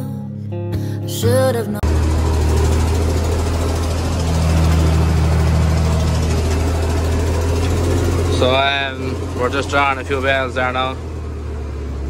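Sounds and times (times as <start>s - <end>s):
tractor engine running: 1.8s - 12.0s.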